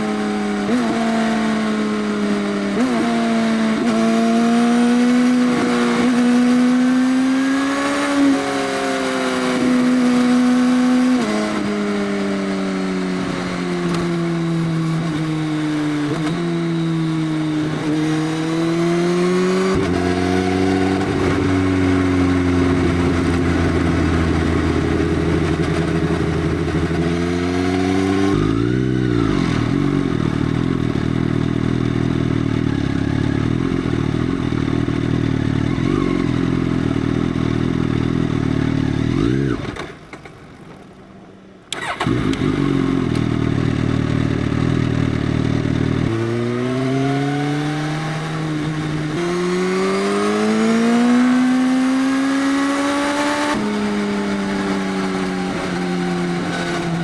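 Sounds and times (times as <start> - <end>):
motorcycle engine revving: 0.0 - 40.3, 41.7 - 57.0.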